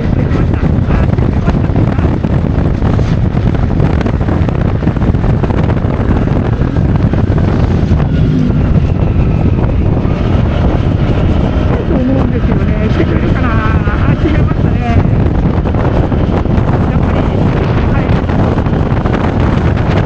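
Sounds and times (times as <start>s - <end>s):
motorcycle running: 0.0s - 20.0s
wind rushing over microphone: 0.0s - 20.0s.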